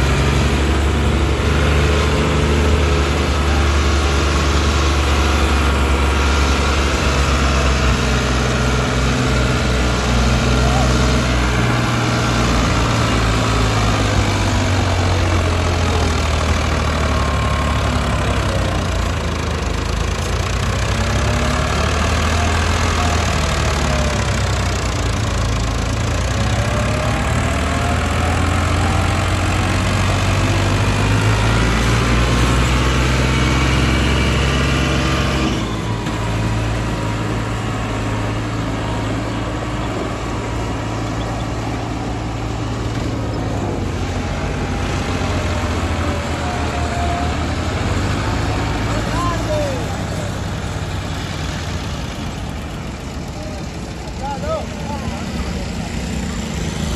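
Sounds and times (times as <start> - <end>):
tractor diesel engine running hard: 0.0 - 56.9.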